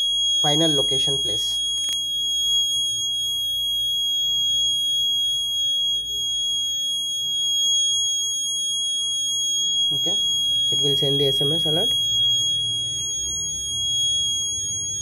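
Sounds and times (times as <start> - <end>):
high-pitched alarm buzzer tone: 0.0 - 15.0.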